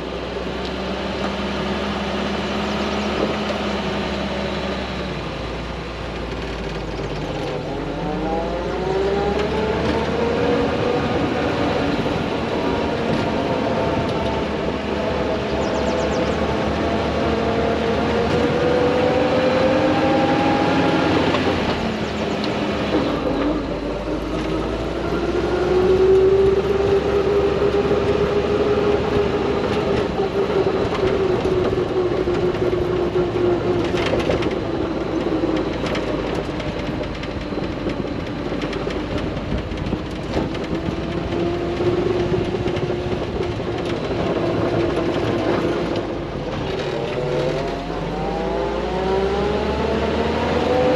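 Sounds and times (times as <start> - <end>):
engine pulling while driving: 0.0 - 50.9.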